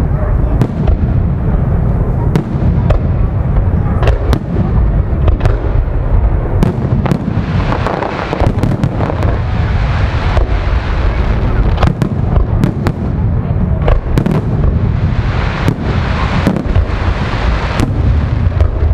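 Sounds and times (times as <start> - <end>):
deep rumble of booms: 0.0 - 18.9
firework bangs: 0.0 - 18.9
firework crackling: 0.0 - 18.9.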